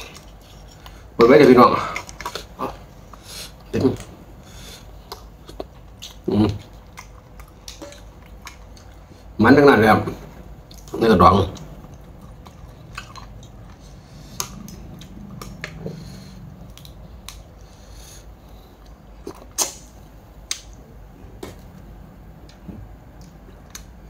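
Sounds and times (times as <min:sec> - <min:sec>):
person chewing: 0:00.0 - 0:09.4, 0:10.5 - 0:24.0.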